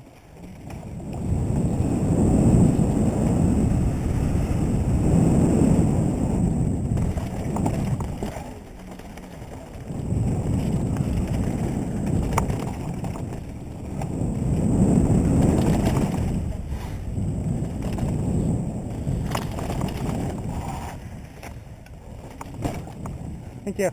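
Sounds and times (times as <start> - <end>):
tyres rolling over dirt: 0.0 - 23.5
bike clicks and rattles: 0.0 - 23.6
wind rumble on microphone: 0.0 - 23.9.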